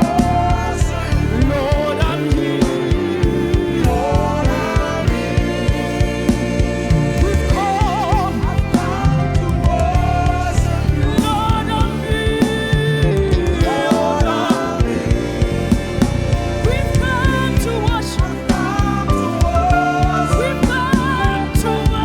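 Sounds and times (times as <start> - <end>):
band with steady drum beat: 0.0 - 22.0
choir singing: 0.0 - 22.0
person singing: 0.0 - 22.0.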